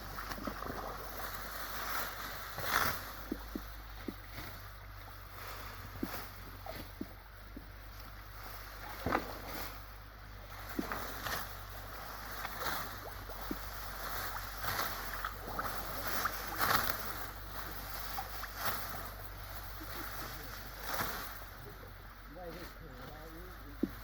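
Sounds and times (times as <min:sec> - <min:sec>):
light water splashes: 0:00.0 - 0:22.2
low steady hum: 0:00.0 - 0:24.0
rustling swishes: 0:00.0 - 0:24.0.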